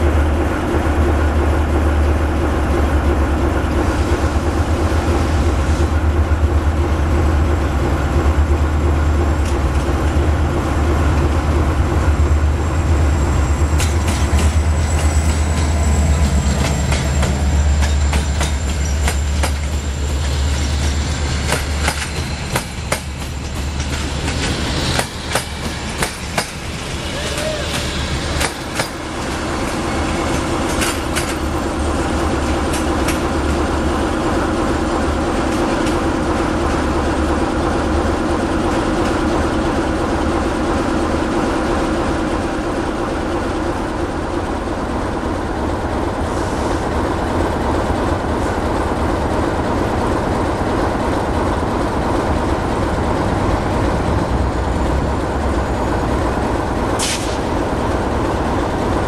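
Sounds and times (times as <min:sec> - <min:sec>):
diesel locomotive engine hum: 0:00.0 - 0:59.0.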